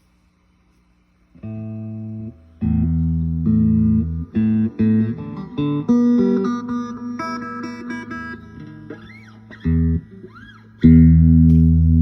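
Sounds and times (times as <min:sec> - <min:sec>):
amplifier hum: 0:00.0 - 0:12.0
guitar chords ringing: 0:01.4 - 0:12.0.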